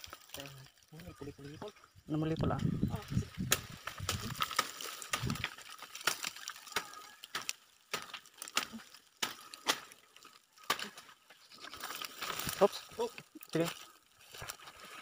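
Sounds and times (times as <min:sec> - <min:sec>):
dry leaves and twigs crackling: 0:00.0 - 0:15.0.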